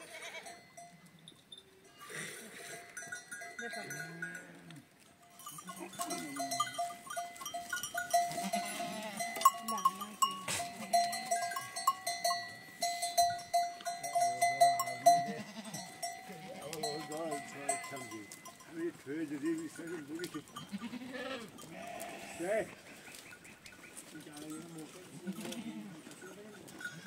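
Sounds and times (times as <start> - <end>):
sheep and goats bleating: 0.0 - 1.1, 1.8 - 27.0
animal bells clinking: 0.0 - 27.0.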